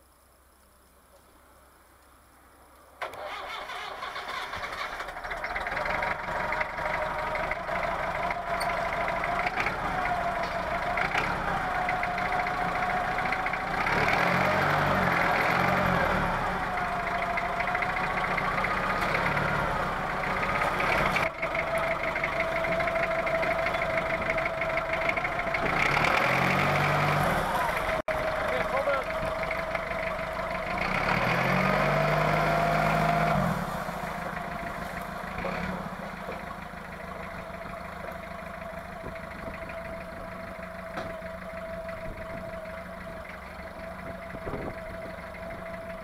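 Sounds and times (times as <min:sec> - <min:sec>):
diesel engine starting and revving: 0:03.0 - 0:46.0.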